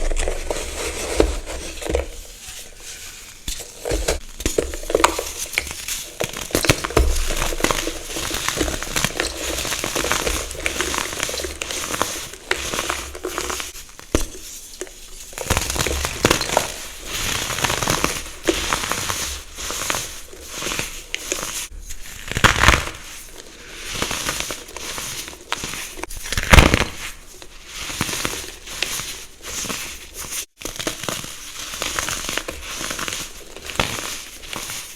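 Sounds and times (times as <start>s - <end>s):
brittle crackling crunches: 0.0s - 34.9s.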